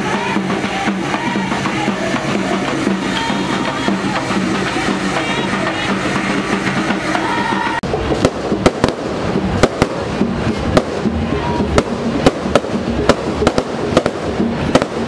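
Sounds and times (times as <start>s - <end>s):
fireworks bangs and cracks: 0.0s - 15.0s
music: 0.0s - 15.0s.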